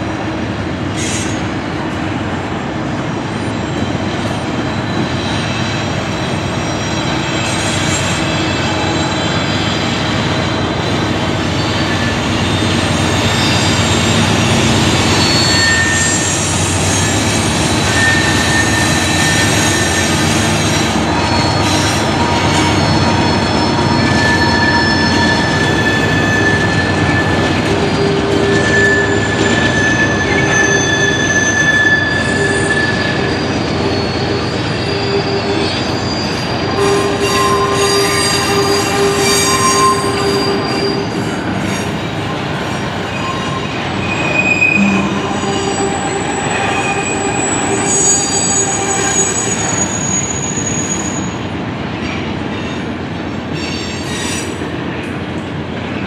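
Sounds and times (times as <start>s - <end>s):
train wheels rumbling on rails: 0.0s - 56.0s
high-pitched wheel squeal: 3.7s - 51.4s.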